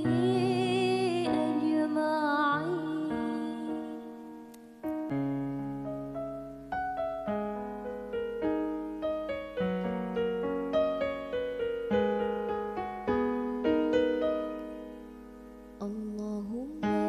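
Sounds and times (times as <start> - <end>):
piano chords ringing: 0.0 - 17.0.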